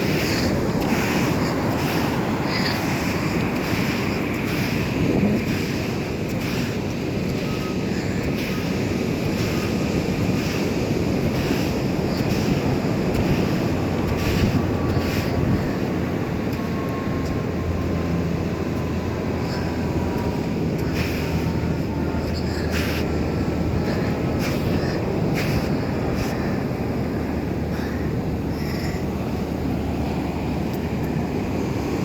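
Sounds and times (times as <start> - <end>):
low engine drone: 0.0 - 32.0
wind buffeting microphone: 0.0 - 32.0.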